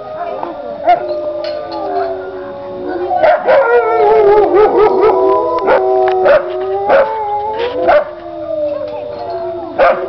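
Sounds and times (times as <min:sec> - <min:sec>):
wolves howling in chorus: 0:00.0 - 0:10.0
wolves yelping: 0:00.8 - 0:10.0.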